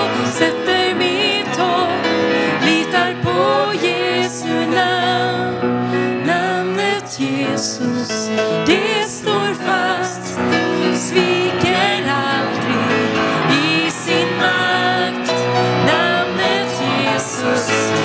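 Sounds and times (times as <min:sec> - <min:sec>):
grand piano: 0:00.0 - 0:18.0
woman singing into a microphone: 0:00.0 - 0:18.0.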